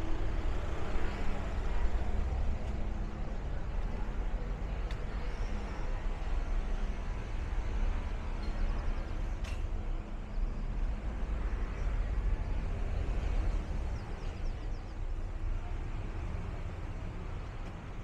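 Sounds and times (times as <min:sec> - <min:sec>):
low street rumble: 0:00.0 - 0:18.0.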